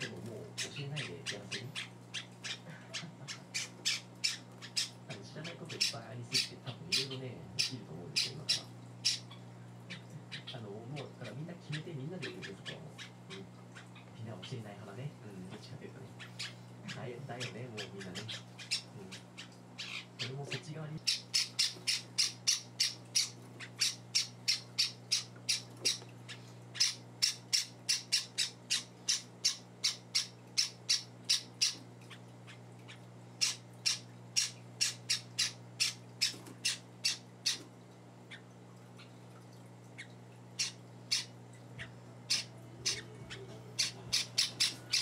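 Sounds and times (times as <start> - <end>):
bird chicks calling: 0.0 - 14.8, 15.5 - 39.2, 39.9 - 45.0.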